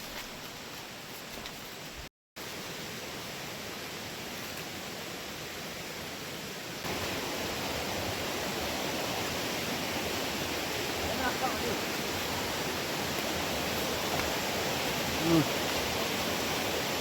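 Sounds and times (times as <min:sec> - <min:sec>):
rushing river water: 0:00.0 - 0:17.0.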